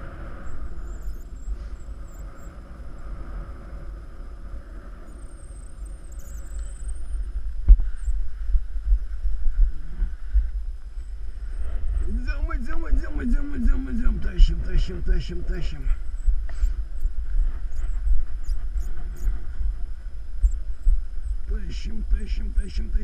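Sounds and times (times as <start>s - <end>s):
wind buffeting microphone: 0.0s - 21.6s.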